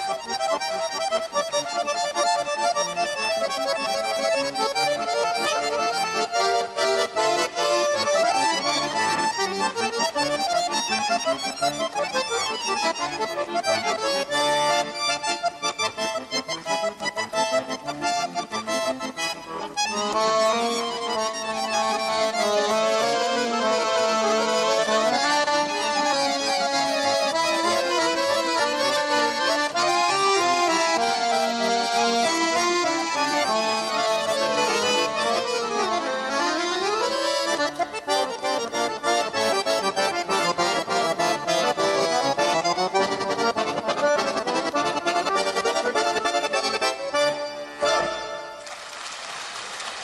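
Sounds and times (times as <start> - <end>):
accordion duet folk tune: 0.0 - 48.8.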